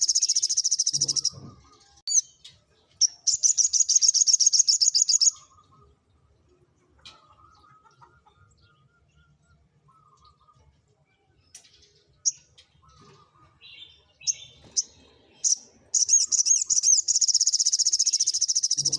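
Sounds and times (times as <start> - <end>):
songbird chirping and trilling: 0.0 - 18.9.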